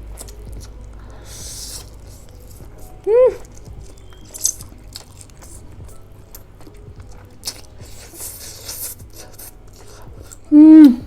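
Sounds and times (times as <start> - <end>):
chewing noodles: 0.0 - 11.0
slurping: 0.0 - 11.0.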